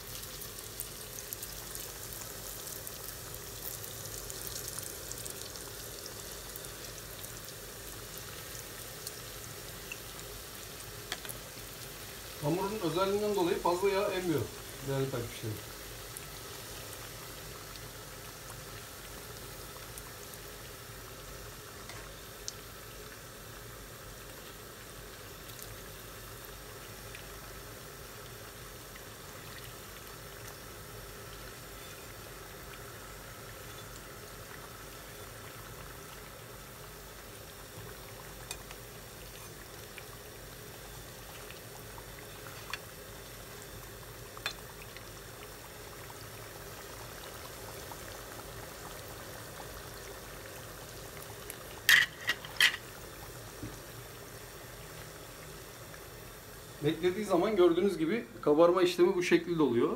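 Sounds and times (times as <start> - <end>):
oil bubbling and sizzling: 0.0 - 59.9.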